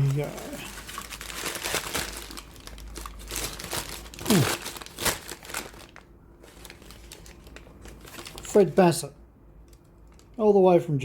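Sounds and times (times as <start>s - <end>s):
packaging crinkling and tearing: 0.0s - 8.8s, 9.7s - 10.5s.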